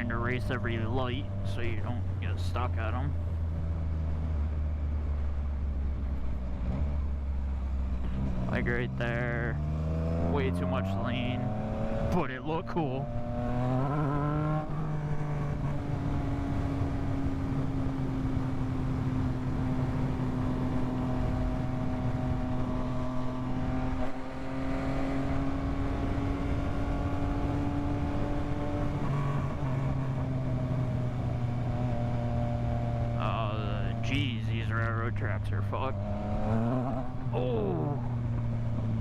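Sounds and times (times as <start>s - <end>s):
motorcycle engine cruising: 0.0s - 39.0s.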